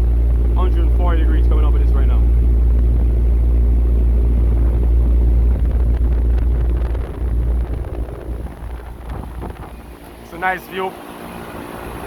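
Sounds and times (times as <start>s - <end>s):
rooftop unit fan and compressor hum: 0.0s - 12.0s.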